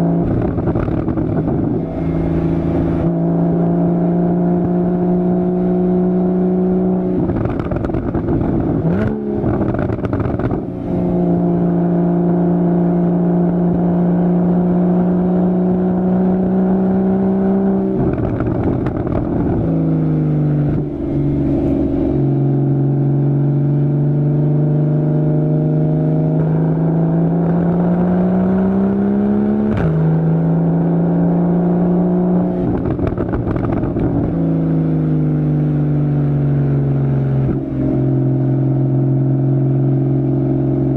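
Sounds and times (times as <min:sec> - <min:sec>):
sports car exhaust note: 0:00.0 - 0:40.9.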